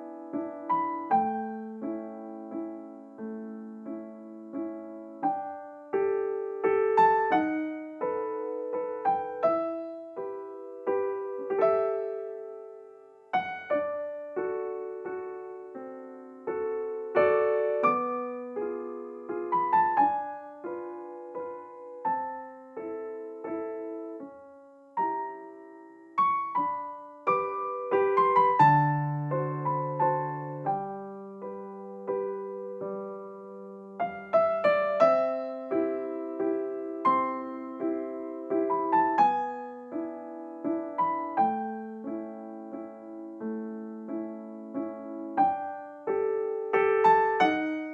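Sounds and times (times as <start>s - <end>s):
slow solo piano music: 0.0s - 47.9s.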